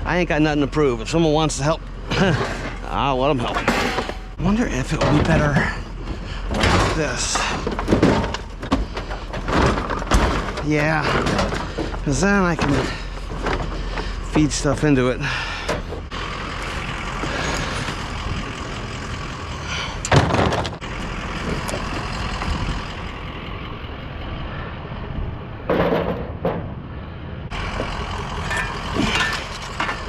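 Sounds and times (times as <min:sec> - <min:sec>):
steady rumble: 0:00.0 - 0:30.0.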